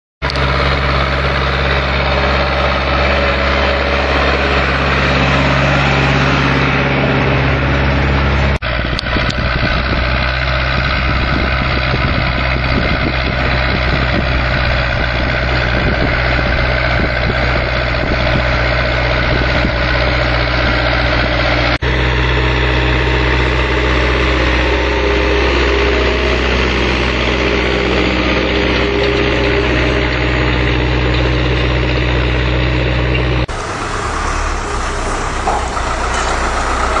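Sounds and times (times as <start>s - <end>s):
diesel engines rumbling and clattering: 0.2s - 37.0s.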